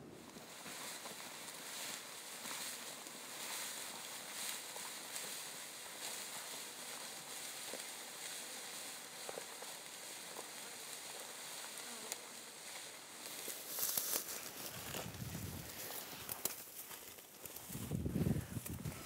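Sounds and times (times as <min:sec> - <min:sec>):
footsteps through dry grass: 0:00.2 - 0:19.0.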